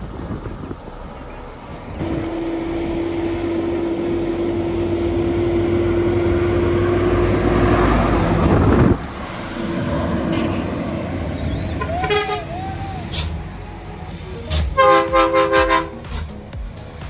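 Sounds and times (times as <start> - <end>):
steady whining tone: 0.0 - 17.0
truck engine braking: 0.0 - 17.0.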